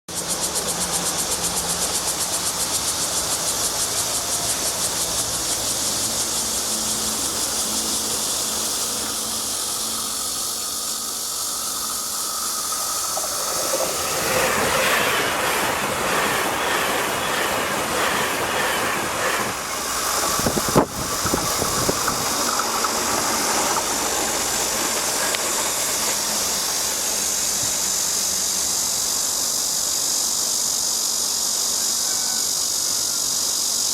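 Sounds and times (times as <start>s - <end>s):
train passing: 0.1s - 33.8s
high insect buzz: 0.1s - 33.9s.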